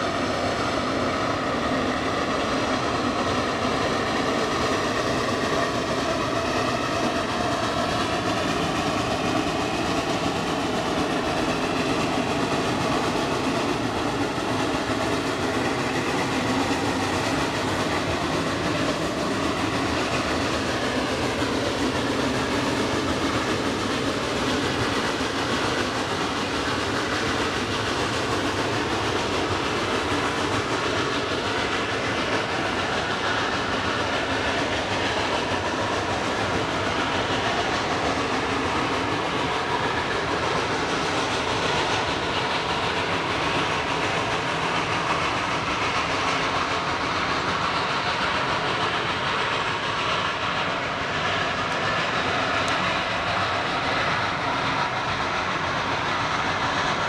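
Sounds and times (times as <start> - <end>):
steam locomotive working hard: 0.0 - 57.0.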